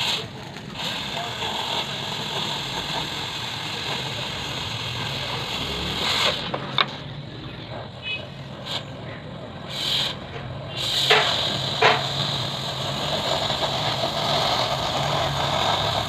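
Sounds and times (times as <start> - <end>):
cutting torch hissing: 0.0 - 16.0.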